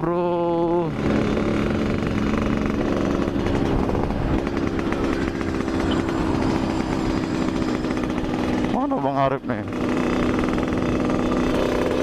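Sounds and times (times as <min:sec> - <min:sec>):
motorcycle engine raspy exhaust: 0:00.0 - 0:12.0.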